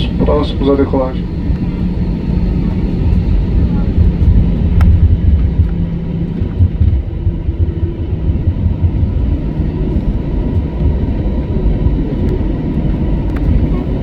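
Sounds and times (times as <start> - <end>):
deep rumble of engines and wheels: 0.0 - 14.0
faint steady engine tone: 0.0 - 14.0.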